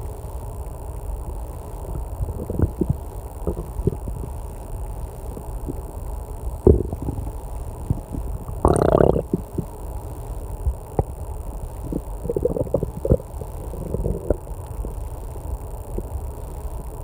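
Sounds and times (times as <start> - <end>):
air conditioner humming: 0.0 - 17.0
stomach growling: 1.7 - 17.0.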